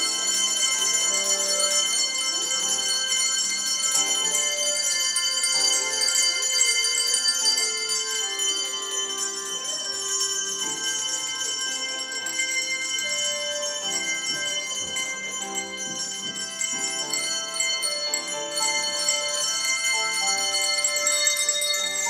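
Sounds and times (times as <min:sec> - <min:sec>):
handbells playing a simple tune: 0:00.0 - 0:22.0.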